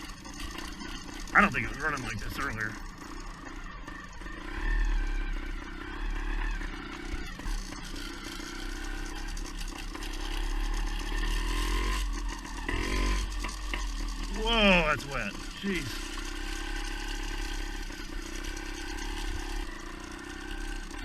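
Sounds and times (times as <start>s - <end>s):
two-stroke motorbike engine revving: 0.0s - 21.0s.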